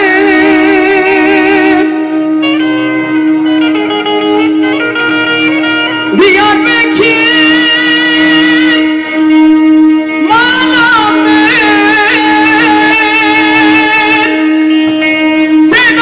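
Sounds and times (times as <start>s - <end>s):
ornamented wavering melody: 0.0s - 16.0s
steady drone note: 0.0s - 16.0s.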